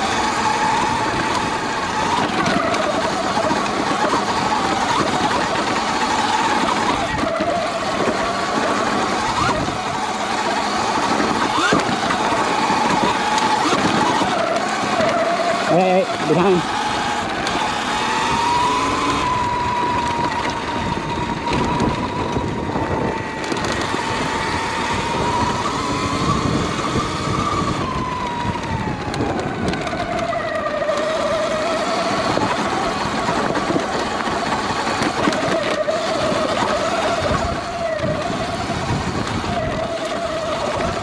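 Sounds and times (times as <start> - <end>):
wind on microphone: 0.0 - 15.2, 16.2 - 41.0
electric motor whining: 0.0 - 41.0
trail rumble: 0.0 - 41.0.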